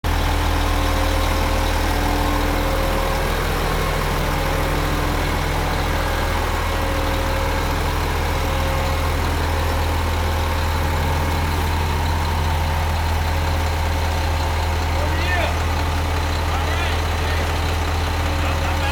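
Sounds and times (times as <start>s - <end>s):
diesel truck engine idling: 0.0s - 18.9s.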